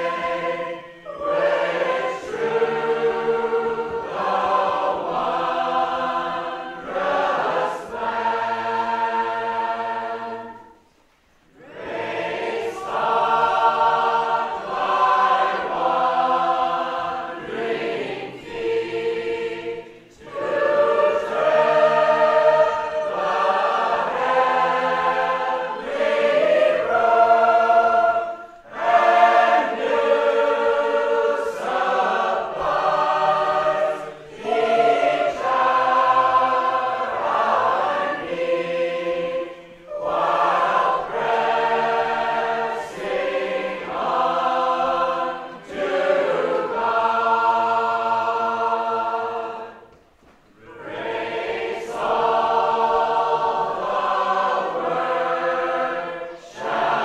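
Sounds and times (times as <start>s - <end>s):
choir singing a hymn unaccompanied: 0.0s - 57.0s.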